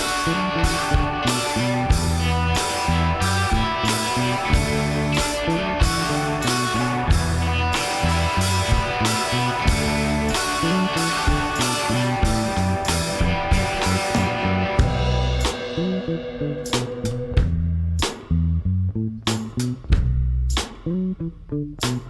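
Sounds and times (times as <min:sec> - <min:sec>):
rock music with guitar bass drums: 0:00.0 - 0:18.3.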